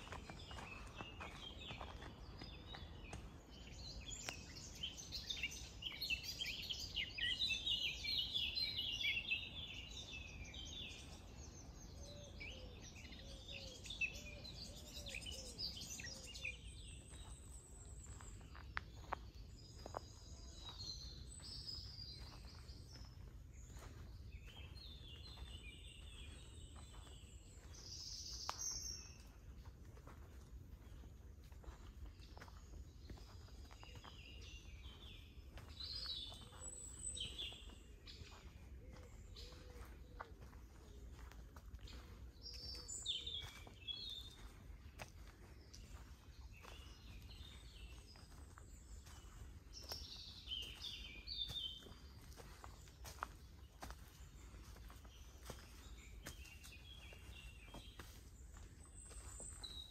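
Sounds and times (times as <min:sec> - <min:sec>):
footsteps on dirt path: 0:00.0 - 0:59.9
songbirds singing: 0:00.0 - 0:59.9.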